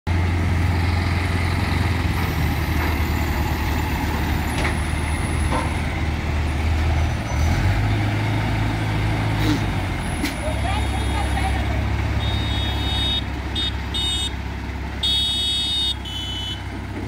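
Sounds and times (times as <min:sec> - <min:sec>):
diesel engine droning: 0:00.1 - 0:17.0.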